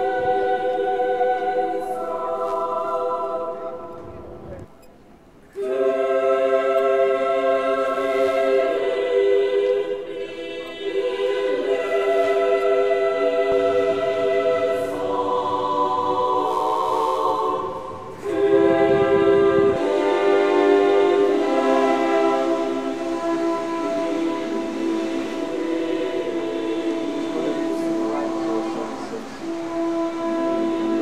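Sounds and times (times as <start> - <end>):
choir singing slow chords: 0.0 - 31.0.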